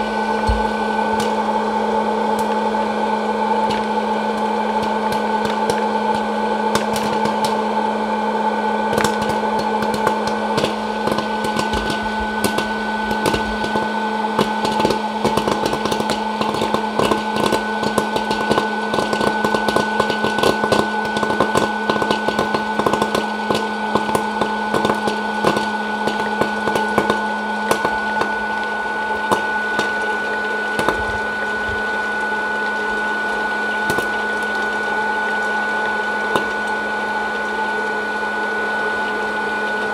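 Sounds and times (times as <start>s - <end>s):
popcorn kernels popping: 0.0s - 39.9s
popcorn popper fan hum: 0.0s - 39.9s.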